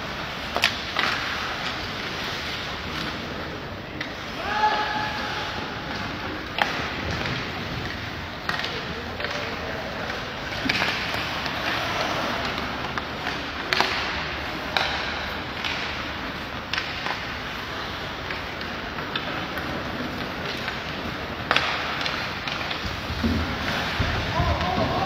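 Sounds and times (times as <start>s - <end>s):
hockey sticks and puck knocking: 0.0s - 25.0s
skates scraping ice: 0.0s - 25.0s.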